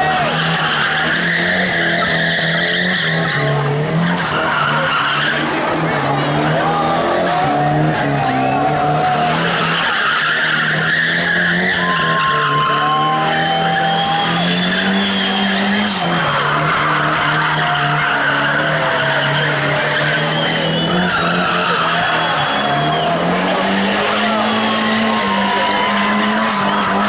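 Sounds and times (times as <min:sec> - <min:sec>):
car engine at high revs: 0:00.0 - 0:27.0
tyres squealing: 0:00.0 - 0:27.0.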